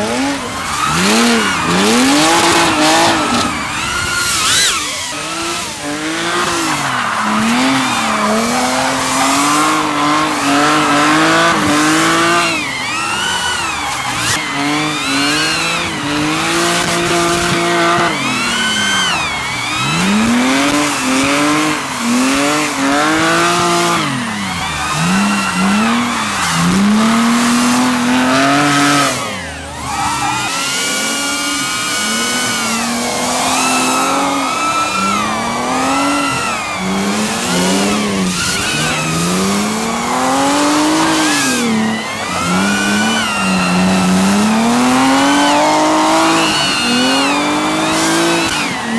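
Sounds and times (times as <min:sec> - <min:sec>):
car engines revving: 0:00.0 - 0:48.9
tyres squealing: 0:00.0 - 0:48.9.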